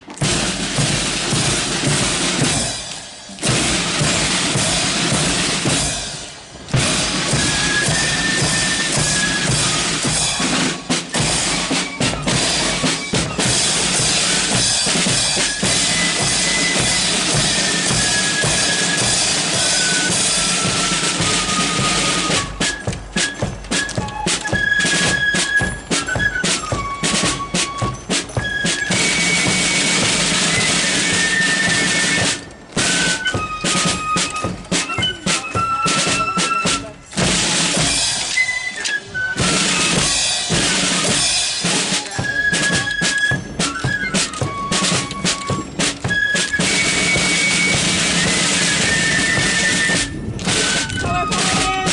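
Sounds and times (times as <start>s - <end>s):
snare drums with rim clicks: 0.0s - 51.9s
high flute notes: 6.8s - 14.6s, 15.4s - 51.9s.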